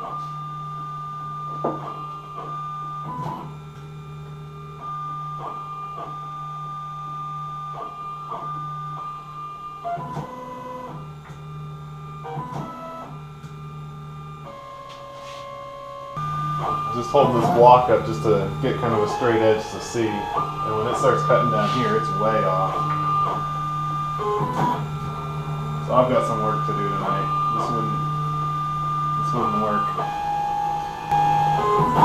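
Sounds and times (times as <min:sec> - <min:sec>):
stepper motors whining: 0:00.0 - 0:32.0.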